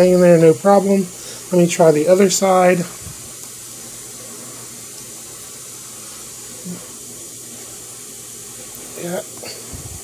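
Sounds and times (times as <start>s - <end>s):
room tone hiss: 0.0s - 10.0s.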